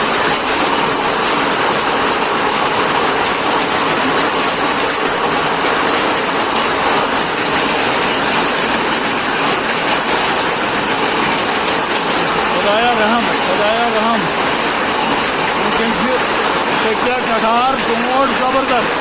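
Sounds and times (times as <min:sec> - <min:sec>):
hailstones pelting down: 0:00.0 - 0:19.0.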